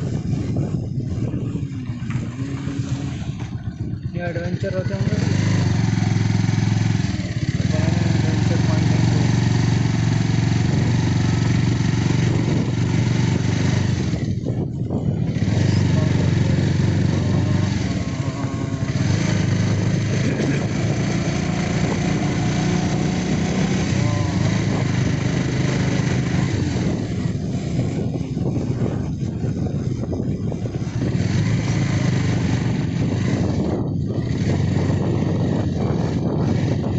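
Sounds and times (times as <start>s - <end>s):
motorcycle engine revving: 0.0s - 36.9s
road noise: 0.0s - 36.9s.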